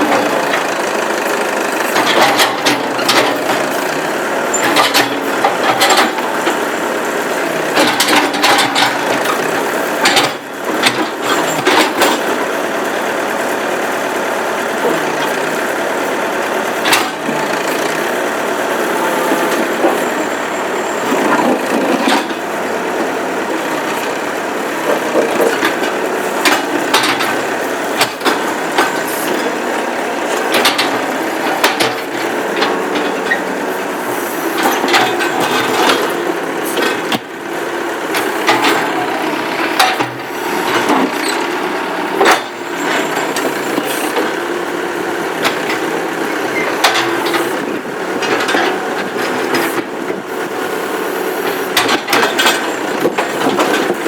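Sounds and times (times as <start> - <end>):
backhoe engine running: 0.0 - 54.0.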